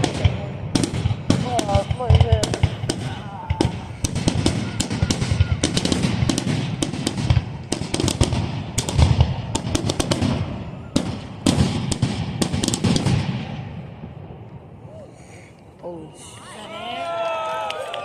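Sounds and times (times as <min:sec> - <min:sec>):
fireworks booming and crackling: 0:00.0 - 0:14.7.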